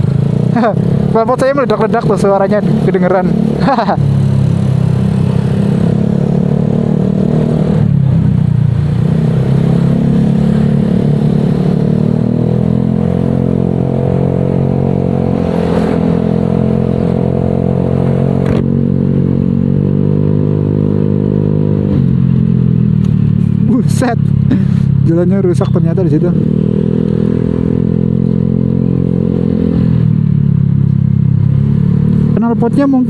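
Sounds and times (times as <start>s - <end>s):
scooter engine with deep exhaust note: 0.0s - 15.5s, 16.1s - 33.0s.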